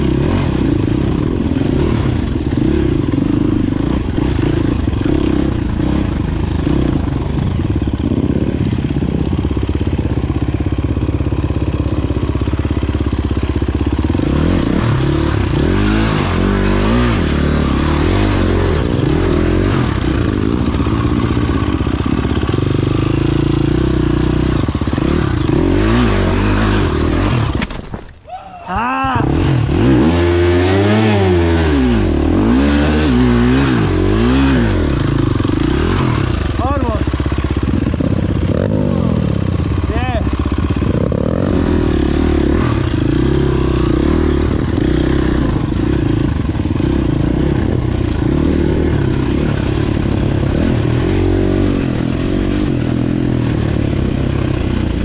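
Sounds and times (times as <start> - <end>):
dirt bike engine revving: 0.0 - 27.6, 28.9 - 55.0.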